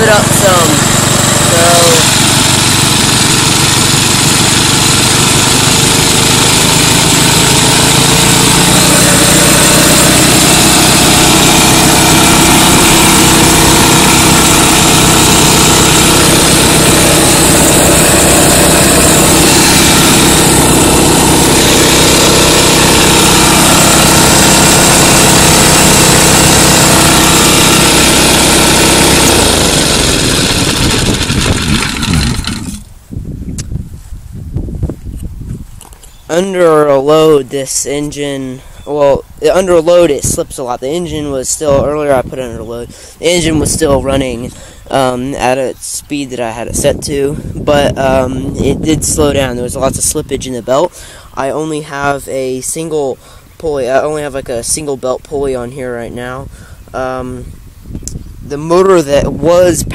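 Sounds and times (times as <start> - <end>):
gasoline engine running compressor: 0.0 - 33.0, 37.9 - 59.9.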